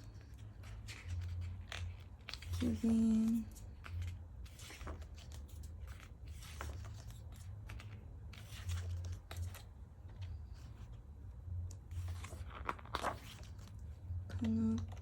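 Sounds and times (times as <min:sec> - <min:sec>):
paper rustling and pages turning: 0:00.0 - 0:15.0
steady low hum: 0:00.0 - 0:15.0.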